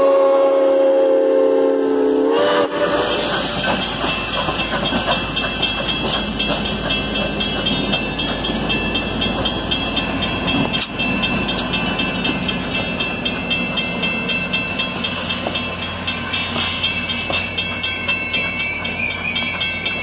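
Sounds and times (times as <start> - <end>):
train wheels rumbling on rails: 0.0 - 20.0
crossing signal bell ringing: 3.1 - 20.0.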